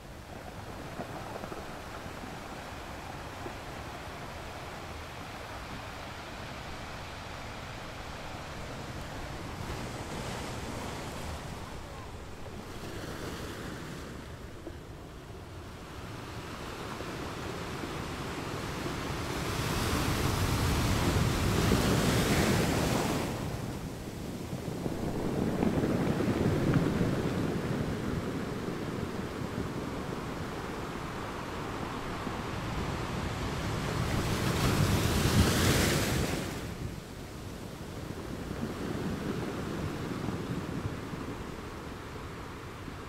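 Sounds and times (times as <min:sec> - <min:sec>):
sea waves washing: 0:00.0 - 0:43.0
wind on microphone: 0:00.0 - 0:43.0.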